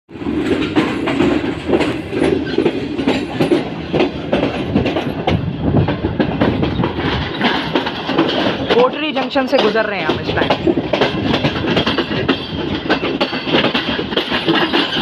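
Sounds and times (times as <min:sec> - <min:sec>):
train rolling rush: 0:00.1 - 0:15.0
wheels clattering over track: 0:00.1 - 0:15.0.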